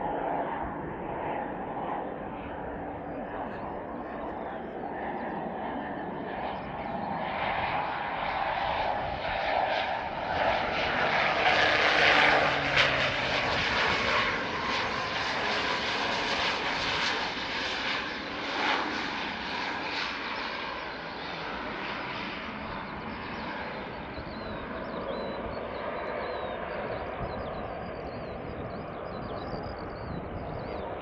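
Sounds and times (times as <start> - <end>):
turboprop plane rolling on runway: 0.0 - 31.0.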